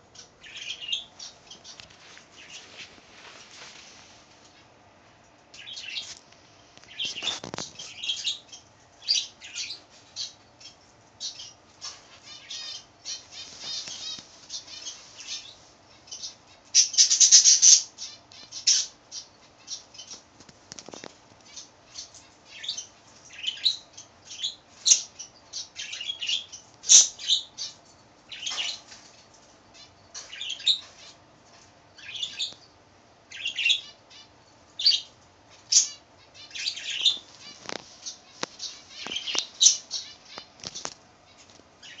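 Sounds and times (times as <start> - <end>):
pet birds chirping: 0.0 - 3.0, 5.5 - 6.2, 6.8 - 42.0.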